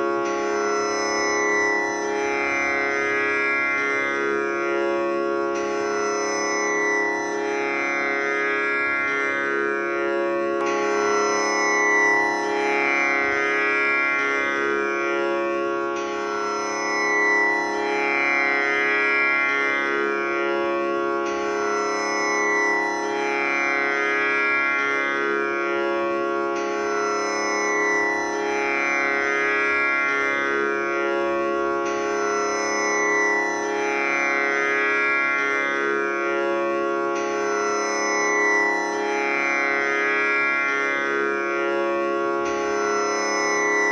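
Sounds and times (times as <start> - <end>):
tanpura drone: 0.0 - 43.9.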